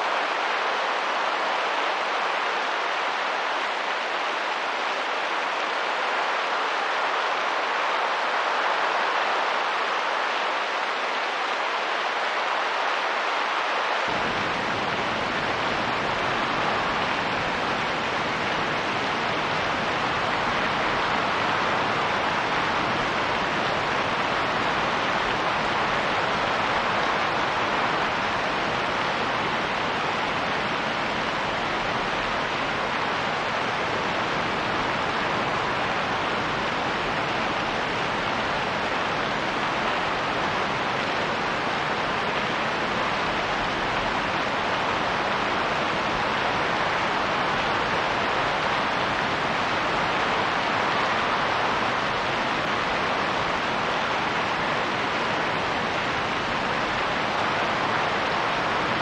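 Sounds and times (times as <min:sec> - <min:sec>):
steady rain: 0:00.0 - 0:59.0
wind: 0:00.0 - 0:59.0.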